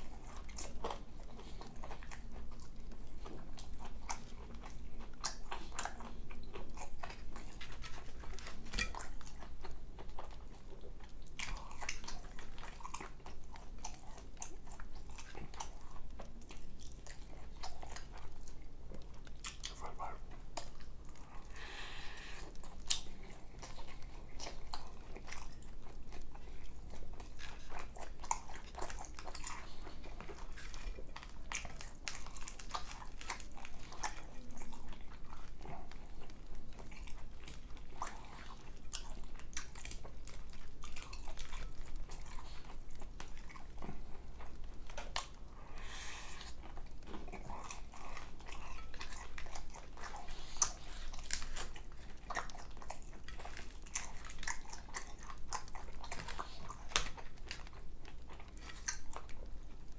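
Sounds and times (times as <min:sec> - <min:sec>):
close chewing and mouth sounds: 0:00.0 - 0:59.9.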